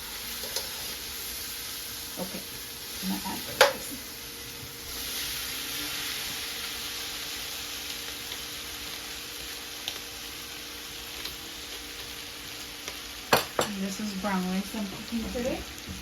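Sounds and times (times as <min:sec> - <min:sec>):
rice sizzling in hot oil: 0:00.0 - 0:16.0.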